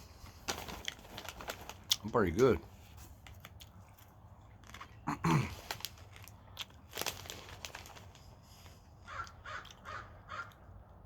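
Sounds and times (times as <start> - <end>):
popcorn crunching as chewed: 0.2 - 11.0.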